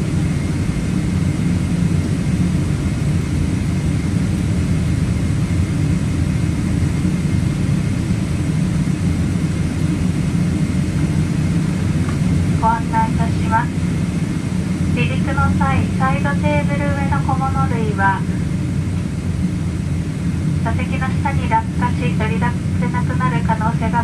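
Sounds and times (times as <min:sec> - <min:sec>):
aircraft cabin low rumble: 0:00.0 - 0:24.0.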